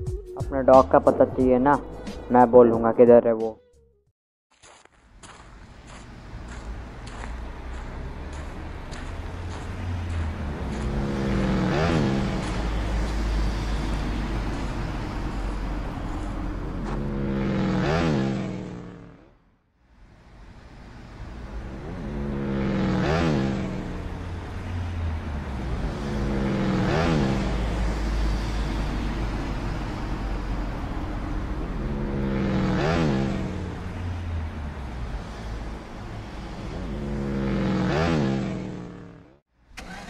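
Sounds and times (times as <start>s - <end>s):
vehicles driving past: 5.0s - 40.0s.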